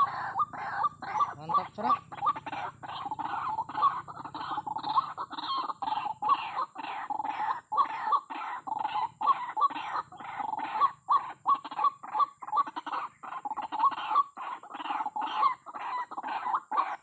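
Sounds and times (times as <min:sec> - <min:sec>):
bird clucking calls: 0:00.0 - 0:17.0.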